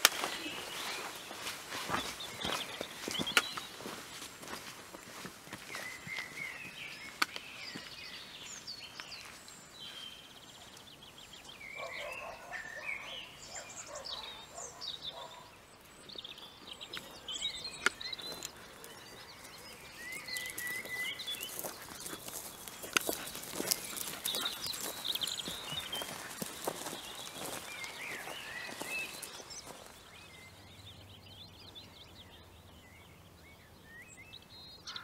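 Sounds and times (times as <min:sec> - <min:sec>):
small birds singing: 0:00.0 - 0:35.0.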